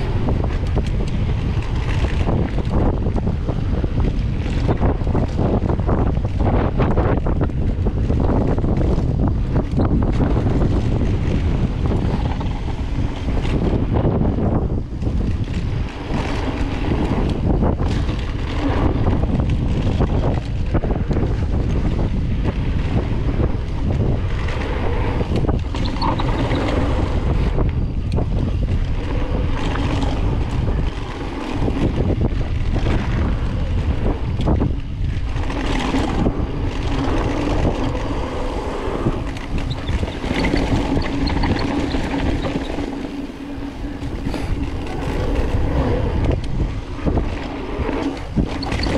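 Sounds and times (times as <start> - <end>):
bike rattles and knocks: 0.0 - 48.9
bike tyre noise: 0.0 - 48.9
wind noise on microphone: 0.0 - 48.9.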